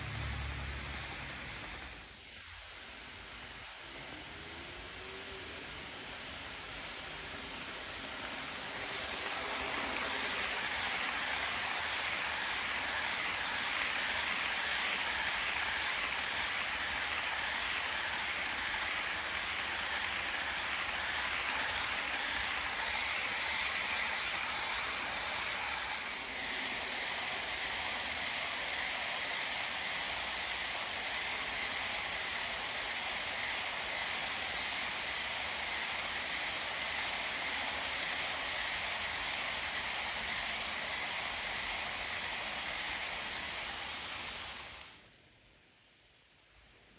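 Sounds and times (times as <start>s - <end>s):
model trains whirring on track: 0.0s - 46.9s.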